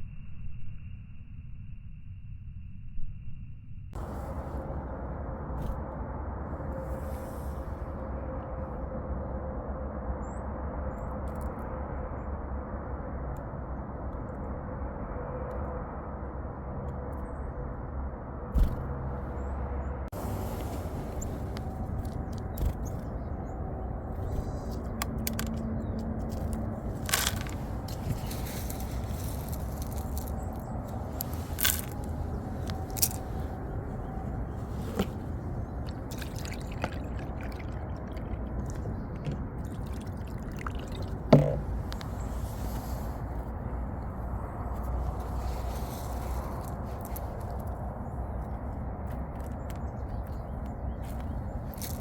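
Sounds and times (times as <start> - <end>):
low rumbling noise: 4.0 - 49.0.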